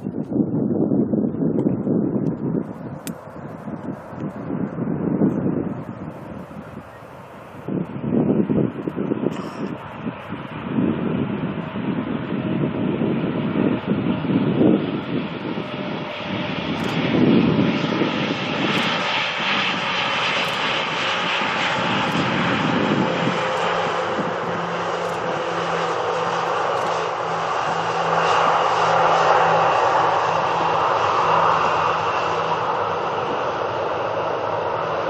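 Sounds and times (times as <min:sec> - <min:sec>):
jet airliner flying past: 0:00.0 - 0:35.0
wind buffeting microphone: 0:00.0 - 0:35.0.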